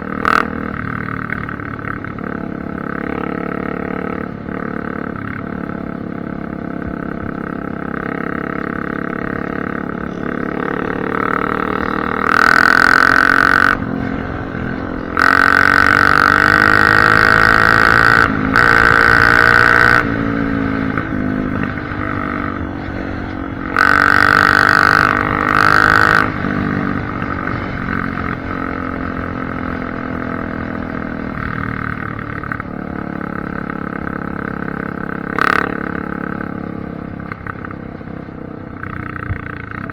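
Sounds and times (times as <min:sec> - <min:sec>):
dirt bike engine revving: 0:00.0 - 0:37.8.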